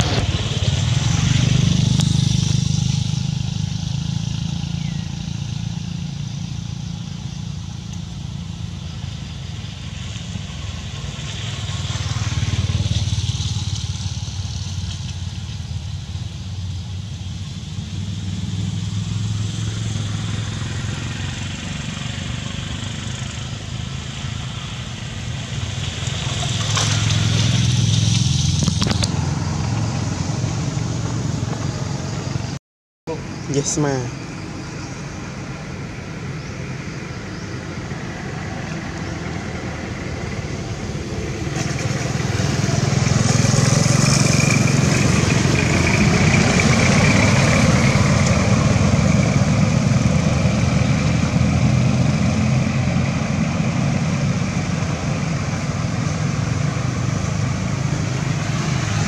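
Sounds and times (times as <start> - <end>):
motorcycles passing by: 0.0 - 59.0.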